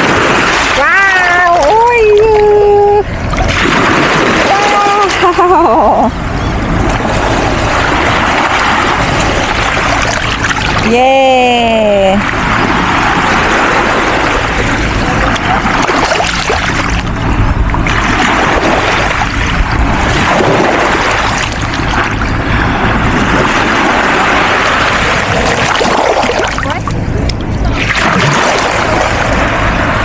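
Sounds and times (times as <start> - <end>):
sea water surging: 0.0 - 30.0
wind rumbling on microphone: 0.0 - 30.0.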